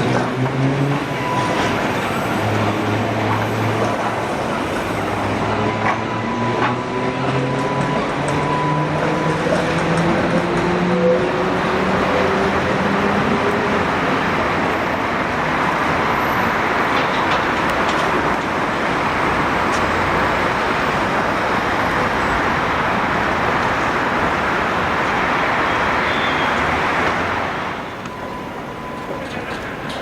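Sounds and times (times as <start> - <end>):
tram wheels rolling on rails: 0.0 - 30.0.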